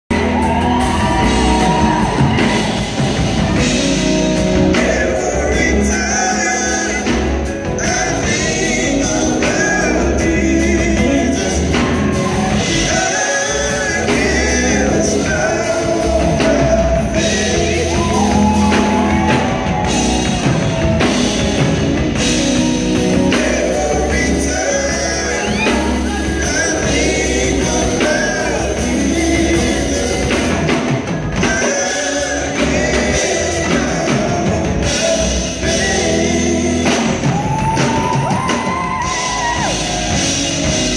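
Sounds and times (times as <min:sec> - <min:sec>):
drum kit: 0:00.0 - 0:40.9
keyboard: 0:00.0 - 0:40.9
electric guitar: 0:00.1 - 0:40.9
singers singing gospel: 0:00.1 - 0:40.9.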